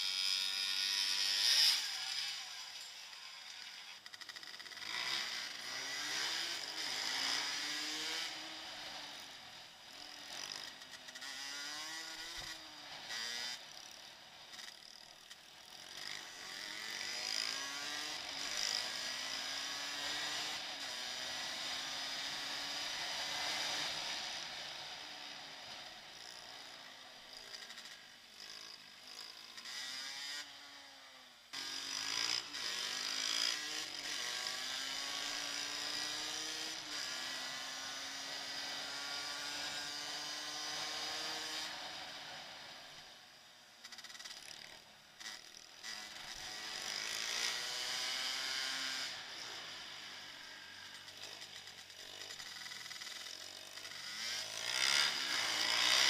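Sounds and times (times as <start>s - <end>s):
dirt bike engine revving: 0.1s - 14.7s, 15.4s - 25.0s, 31.5s - 42.4s, 43.8s - 56.0s.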